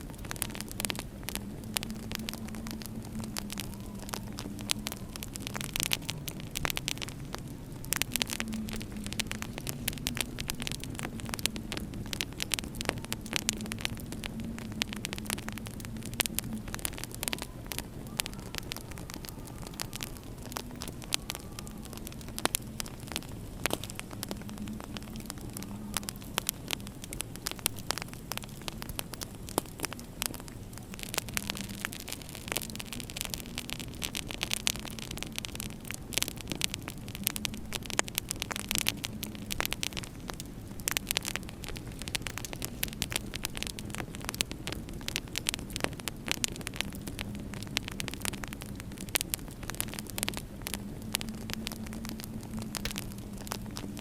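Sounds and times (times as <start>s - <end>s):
low steady hum: 0.0s - 54.0s
wood fire crackling: 0.0s - 54.0s.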